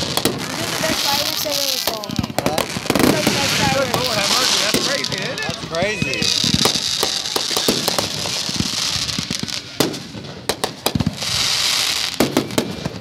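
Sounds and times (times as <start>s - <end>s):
fireworks bangs: 0.0s - 13.0s
hiss of burning fireworks: 0.0s - 13.0s.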